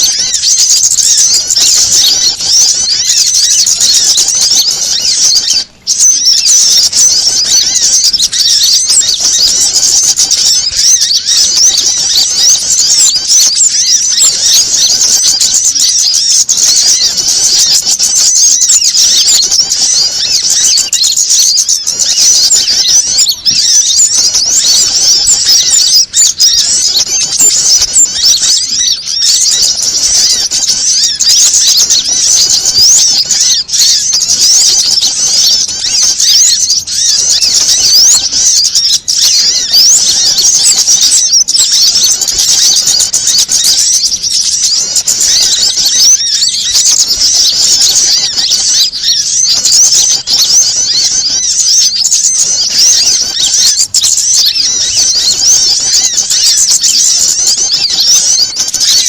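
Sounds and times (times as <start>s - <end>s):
small songbirds chirping and trilling: 0.0s - 59.0s.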